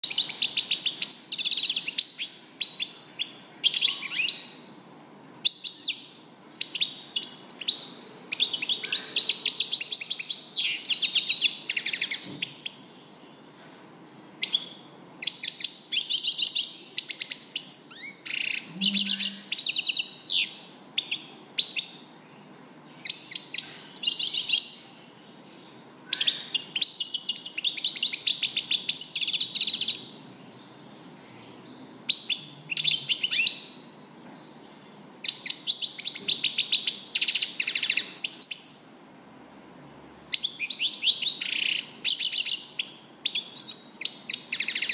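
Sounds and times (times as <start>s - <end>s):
finch twittering song: 0.0s - 4.8s, 5.4s - 13.6s, 14.4s - 39.2s, 40.2s - 44.9s.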